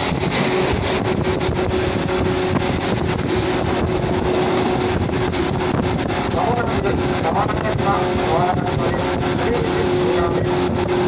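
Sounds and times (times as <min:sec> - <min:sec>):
rush of wheels and wind: 0:00.0 - 0:11.0
train drone with whining tone: 0:00.0 - 0:11.0
wind buffeting microphone: 0:00.0 - 0:11.0.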